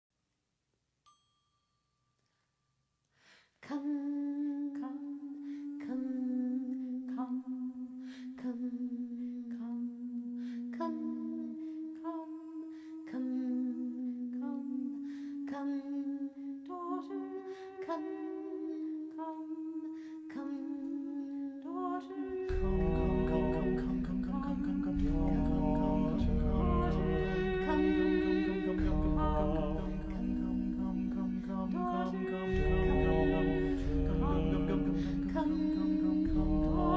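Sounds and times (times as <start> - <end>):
vocal ensemble humming: 3.7 - 36.9.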